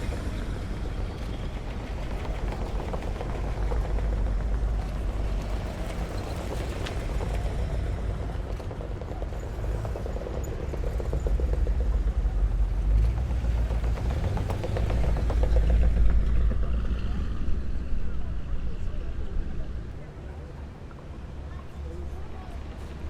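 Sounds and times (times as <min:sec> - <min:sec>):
vintage vehicle engines running: 0:00.0 - 0:23.0.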